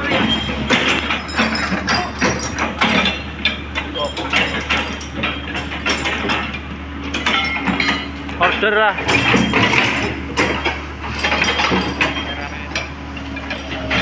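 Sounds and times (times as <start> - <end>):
metallic knocks on steel track: 0.0 - 12.9.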